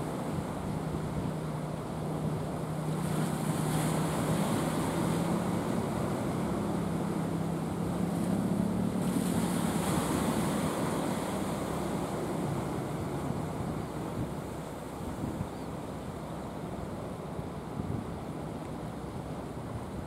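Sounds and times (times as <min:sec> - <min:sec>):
wind on microphone: 0:00.0 - 0:15.8, 0:17.4 - 0:18.6
boat engine humming: 0:00.0 - 0:20.0
surf hiss: 0:00.0 - 0:20.0.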